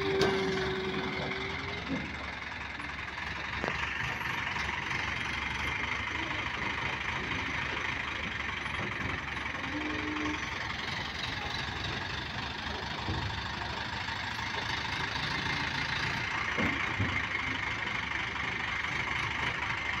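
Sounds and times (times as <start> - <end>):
diesel engine knocking clatter: 0.0 - 20.0.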